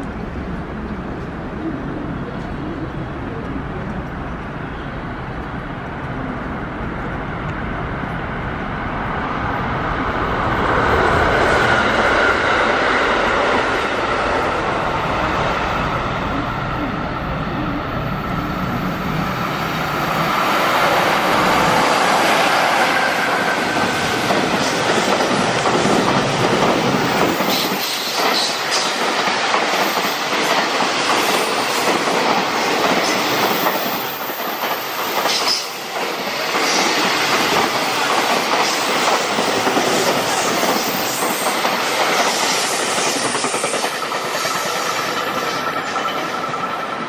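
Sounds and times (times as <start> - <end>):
freight train rumbling past: 0.0 - 47.0.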